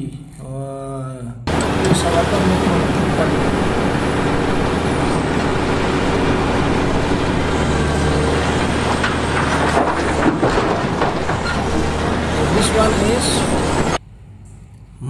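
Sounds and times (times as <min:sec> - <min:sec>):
excavator diesel engine: 0:01.5 - 0:14.0
rock clattering into truck: 0:01.6 - 0:14.0.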